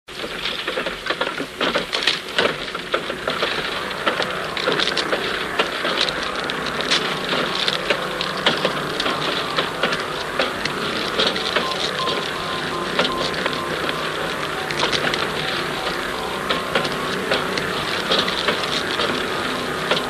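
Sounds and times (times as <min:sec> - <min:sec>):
crackling and clicking: 0:00.1 - 0:20.0
steady hiss: 0:00.1 - 0:20.0.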